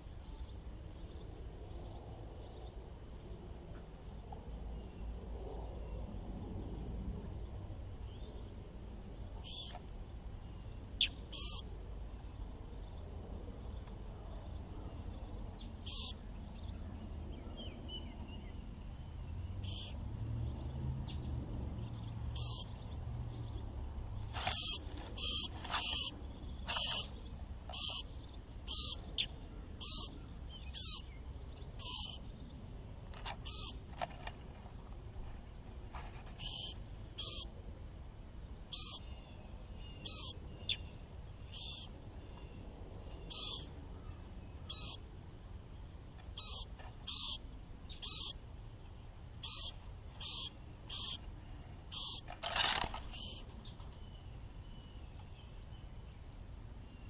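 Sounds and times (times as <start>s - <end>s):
mockingbirds calling: 7.2s - 57.0s.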